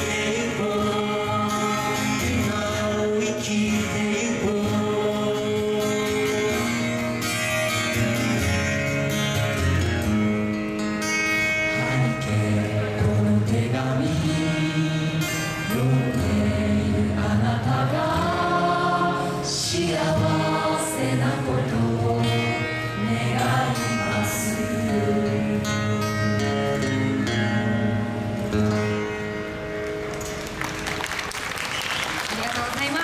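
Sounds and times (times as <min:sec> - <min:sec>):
live band with person singing: 0:00.0 - 0:29.4.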